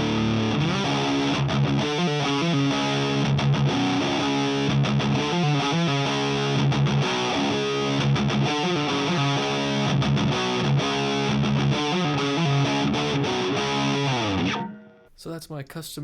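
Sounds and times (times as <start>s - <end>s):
distorted electric guitar riffing: 0.0s - 14.9s.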